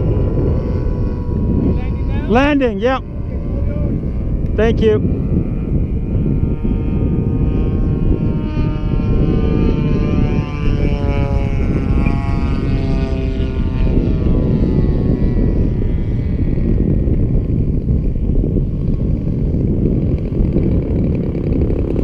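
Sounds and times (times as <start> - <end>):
model airplane engine passing: 0.0 - 22.0
wind rumble on microphone: 0.0 - 22.0.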